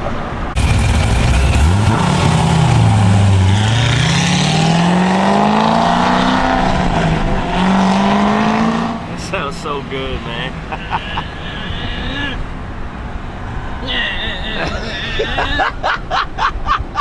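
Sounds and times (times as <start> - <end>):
car engine accelerating: 0.1 - 13.8.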